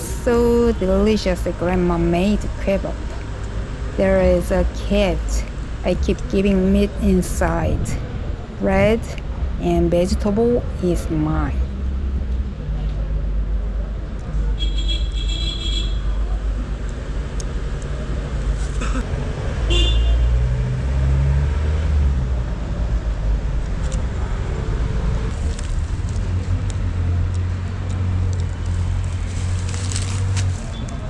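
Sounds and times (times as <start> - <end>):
traffic engine rumble: 0.0 - 31.0.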